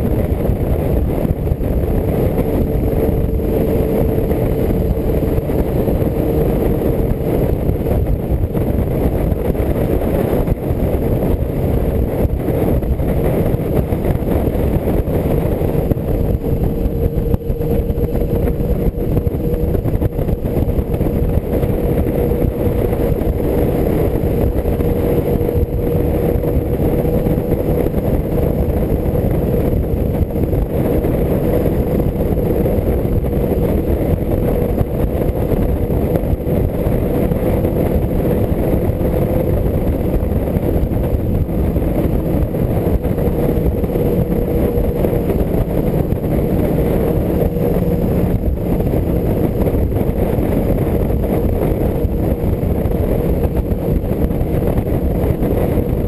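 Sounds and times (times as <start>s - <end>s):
motorcycle engine cruising: 0.0s - 56.0s
wind and road rush: 0.0s - 56.0s.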